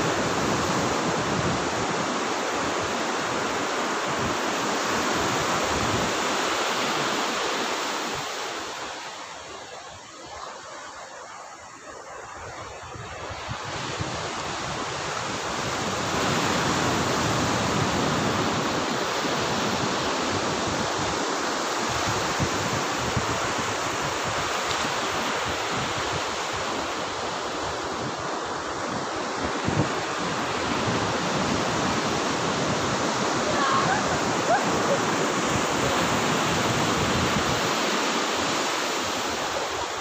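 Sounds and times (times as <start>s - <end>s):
waves breaking on beach: 0.0s - 40.0s.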